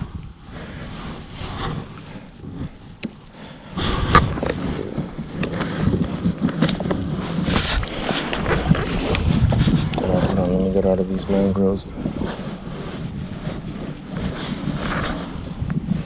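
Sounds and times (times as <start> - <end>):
knocks and scrapes on a kayak: 0.1 - 16.0.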